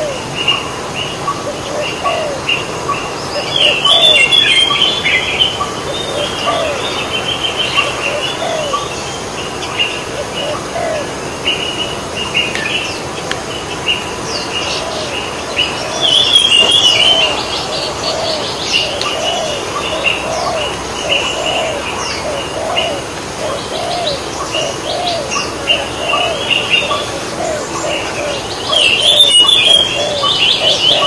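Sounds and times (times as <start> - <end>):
dove cooing: 0.0 - 0.6, 1.3 - 9.0, 9.6 - 12.1, 14.1 - 31.0
small birds chirping: 0.0 - 31.0.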